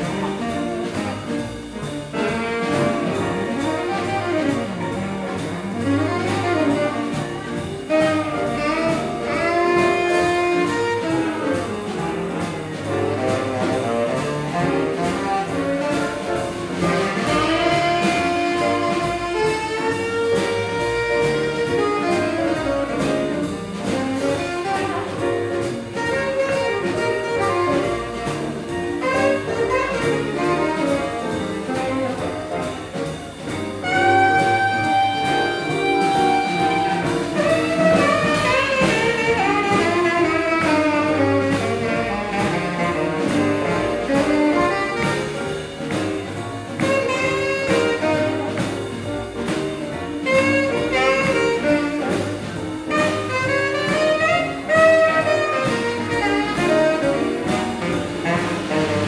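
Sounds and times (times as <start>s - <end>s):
tenor saxophone: 0.0s - 33.1s, 33.8s - 59.0s
jazz band playing swing: 0.0s - 59.0s
upright bass: 0.0s - 59.0s.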